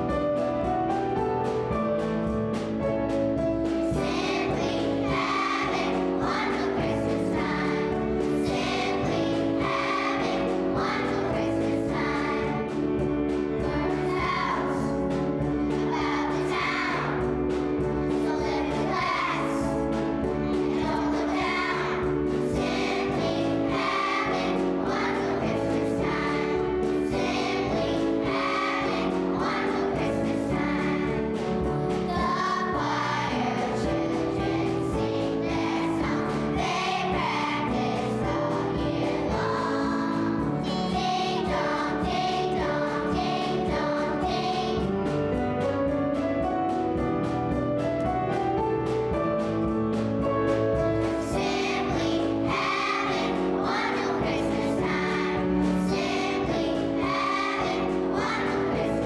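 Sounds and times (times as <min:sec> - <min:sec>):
instrumental accompaniment: 0:00.0 - 0:59.0
children's choir singing: 0:03.7 - 0:45.2, 0:50.8 - 0:59.0.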